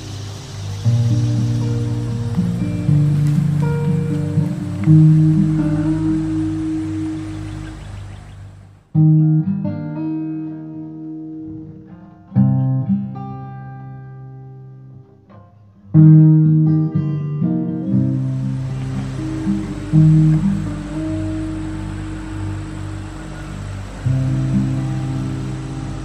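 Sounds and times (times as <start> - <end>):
guitar chords strummed: 0.0 - 26.0.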